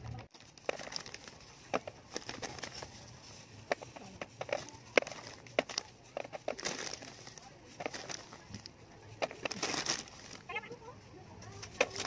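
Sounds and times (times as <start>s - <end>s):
plastic wrappers crinkling: 0.1s - 12.0s.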